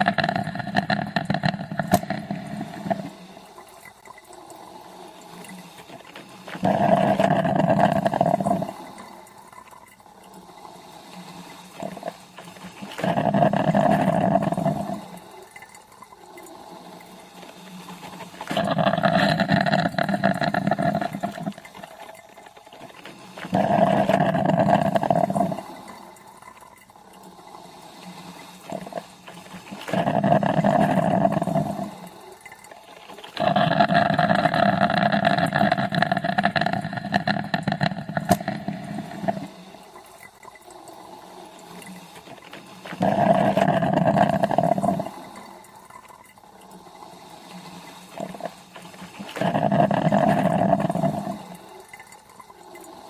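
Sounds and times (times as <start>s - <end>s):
coffee machine brewing: 0.0s - 53.0s.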